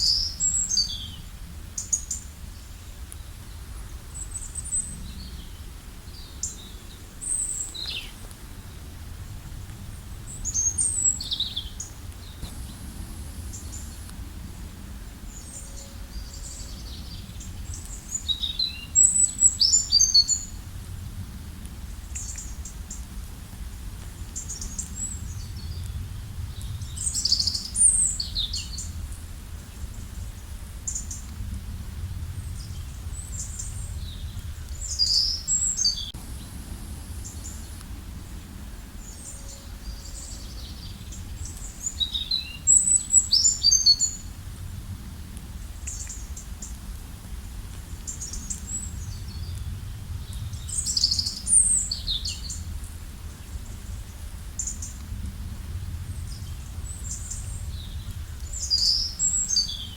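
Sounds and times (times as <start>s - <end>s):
steady low rumble: 2.5s - 59.9s.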